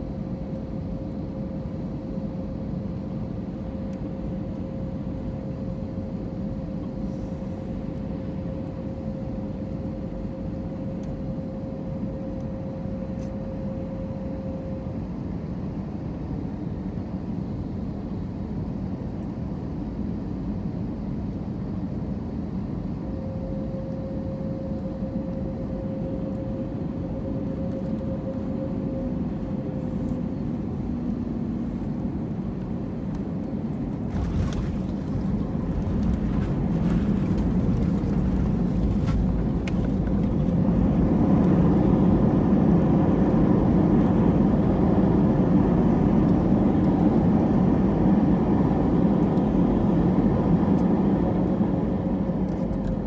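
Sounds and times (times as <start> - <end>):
aircraft engine hum with whine: 0.0 - 53.0.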